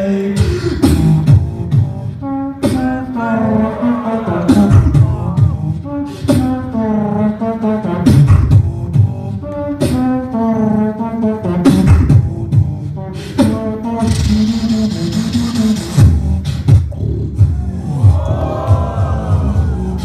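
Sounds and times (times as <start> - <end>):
beatboxing through a microphone: 0.0 - 20.0.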